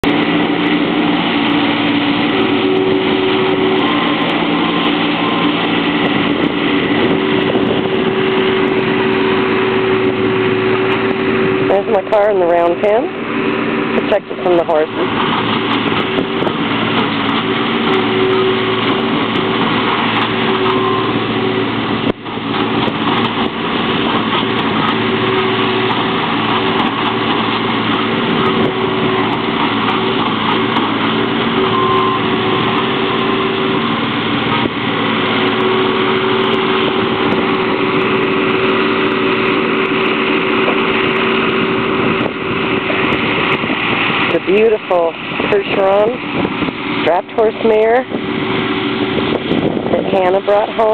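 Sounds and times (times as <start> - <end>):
loader engine running steadily: 0.0 - 50.9.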